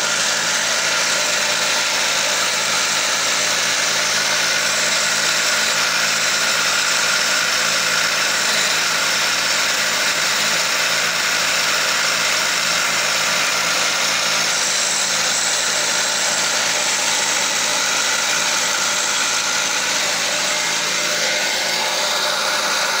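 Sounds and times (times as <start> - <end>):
chisel cutting spinning wood: 0.0 - 23.0
wood lathe motor hum: 0.0 - 23.0.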